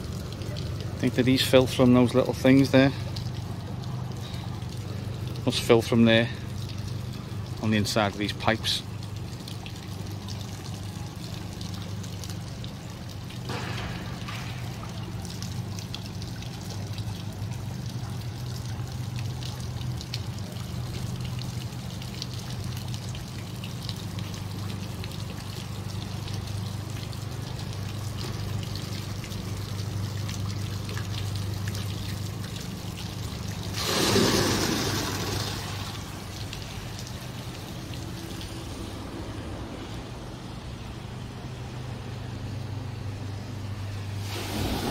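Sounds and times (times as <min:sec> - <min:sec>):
bucket tipping water rush: 0:00.0 - 0:39.3, 0:44.0 - 0:44.9
water trickling into buckets: 0:00.0 - 0:44.9.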